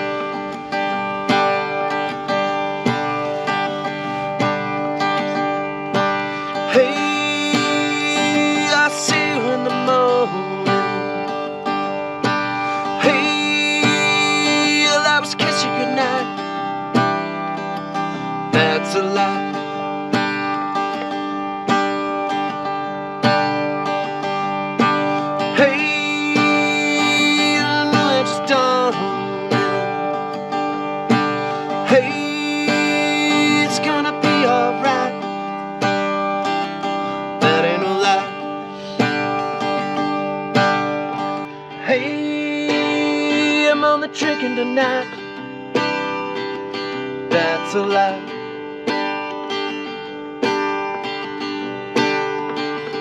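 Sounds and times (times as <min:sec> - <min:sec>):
strummed acoustic guitar music: 0:00.0 - 0:53.0.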